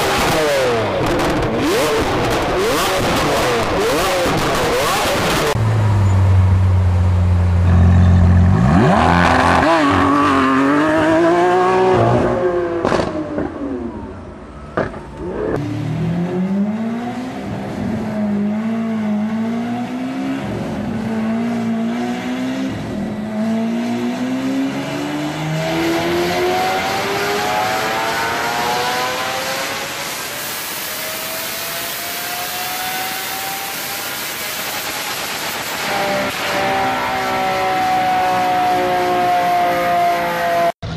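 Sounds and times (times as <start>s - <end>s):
car engine accelerating hard: 0.0s - 14.1s, 14.8s - 40.9s.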